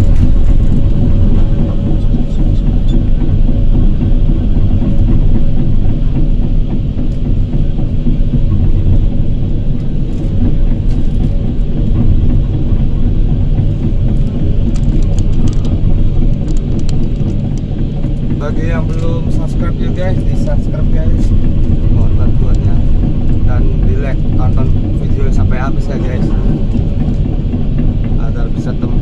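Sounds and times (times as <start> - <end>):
excavator diesel engine rumbling: 0.0 - 29.0
excavator whine: 0.0 - 29.0.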